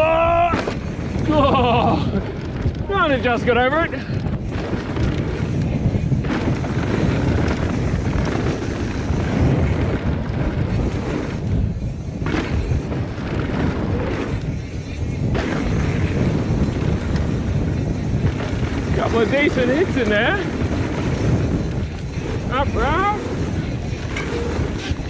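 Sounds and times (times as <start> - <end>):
bike rattling over bumps: 0.0 - 25.0
tyres rolling on dirt: 0.0 - 25.0
wind rushing over microphone: 0.0 - 25.0.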